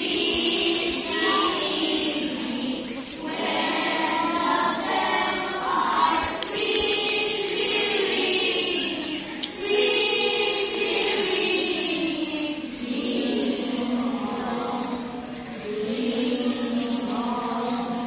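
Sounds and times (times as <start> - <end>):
young voices singing together: 0.0 - 18.0.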